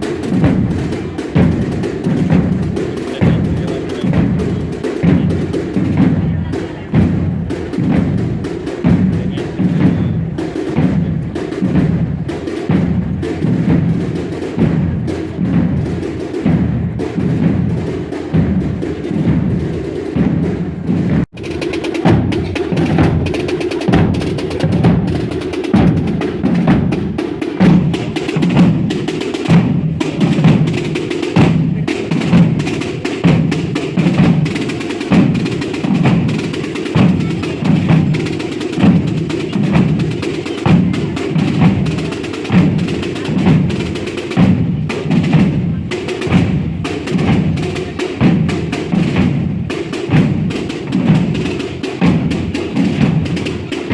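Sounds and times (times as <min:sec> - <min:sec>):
drum band marching beat: 0:00.0 - 0:53.9.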